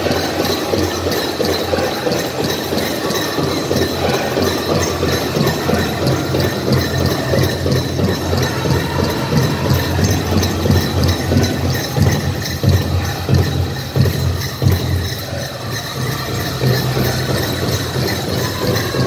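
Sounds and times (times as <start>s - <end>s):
drum beaten in steady rhythm: 0.0s - 19.0s.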